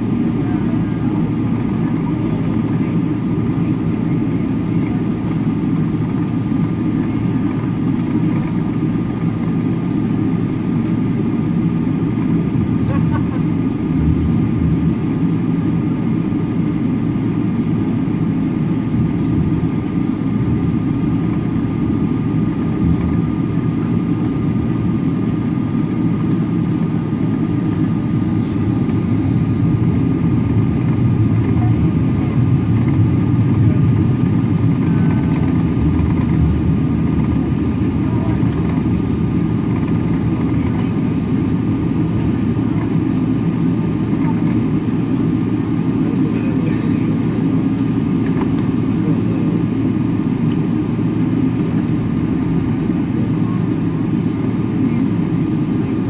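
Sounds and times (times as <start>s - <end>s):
faint steady whine: 0.0s - 56.0s
jet engine low rumble: 0.0s - 56.0s.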